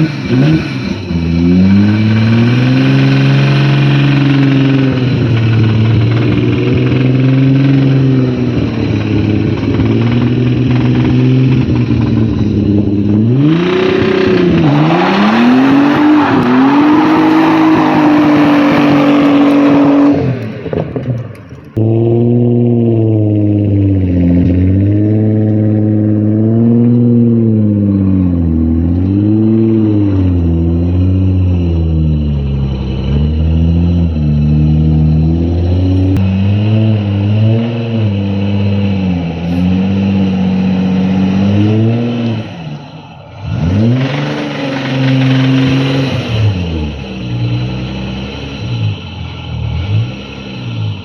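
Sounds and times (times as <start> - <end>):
car engine revving hard: 0.0 - 21.0, 21.8 - 51.0.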